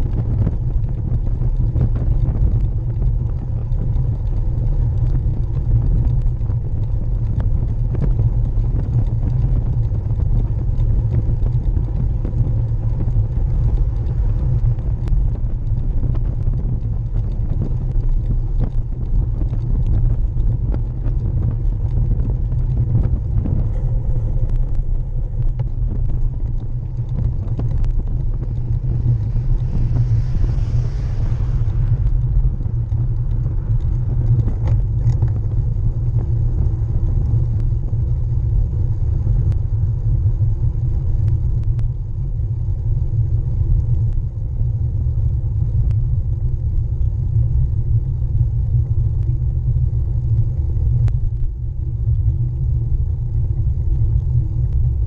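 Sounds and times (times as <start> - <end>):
bike tyre rumbling on tarmac: 0.0 - 55.0.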